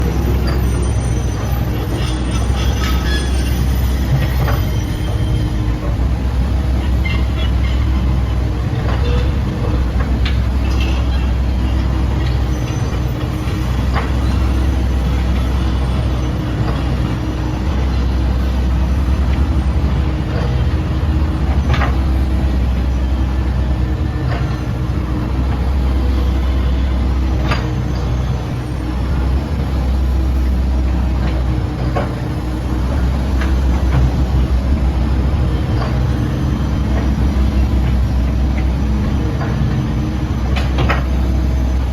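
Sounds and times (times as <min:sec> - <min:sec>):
diesel engine droning: 0:00.0 - 0:41.9.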